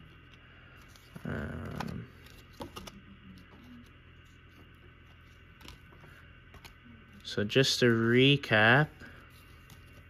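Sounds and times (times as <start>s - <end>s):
cards rustling: 0.0s - 10.0s.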